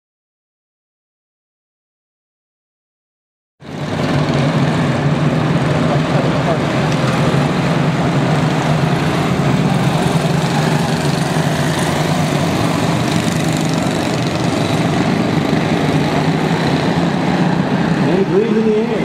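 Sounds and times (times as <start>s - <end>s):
small race car engines droning: 3.6s - 19.0s.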